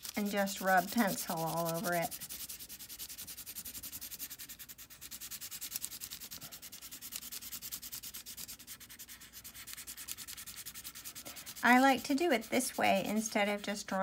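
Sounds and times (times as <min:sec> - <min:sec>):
pencil scribbling on paper: 0:00.0 - 0:14.0.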